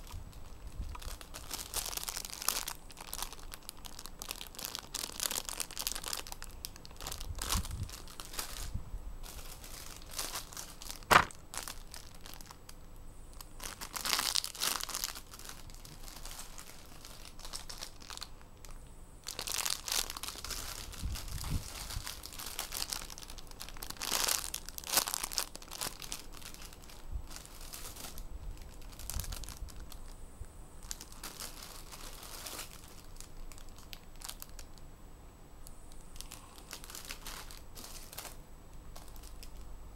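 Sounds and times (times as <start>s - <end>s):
plastic bags crinkling: 0.0s - 30.2s, 30.8s - 34.8s, 36.0s - 39.7s.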